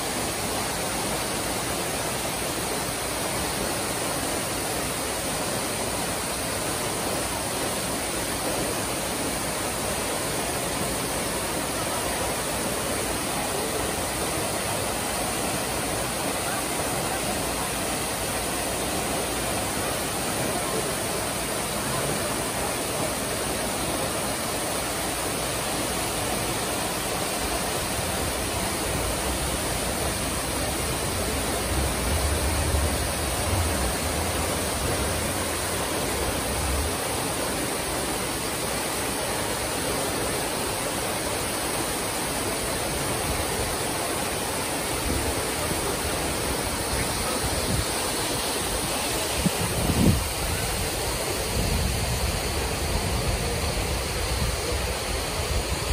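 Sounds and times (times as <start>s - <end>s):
waterfall rushing into pond: 0.0s - 55.9s.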